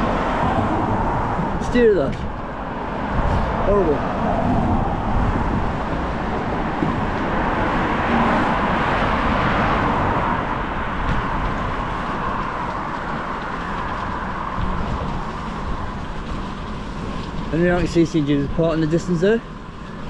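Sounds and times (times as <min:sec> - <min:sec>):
low rumble: 0:00.0 - 0:18.5
vehicle passing: 0:00.0 - 0:19.2
road traffic: 0:00.0 - 0:20.0.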